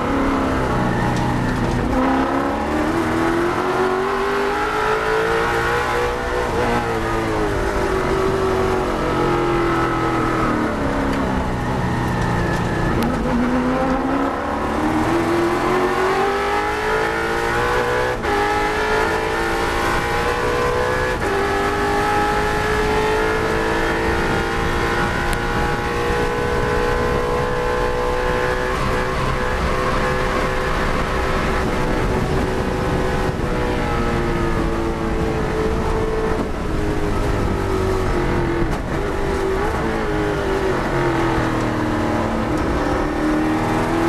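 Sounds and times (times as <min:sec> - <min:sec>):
racing engine at speed: 0:00.0 - 0:44.0.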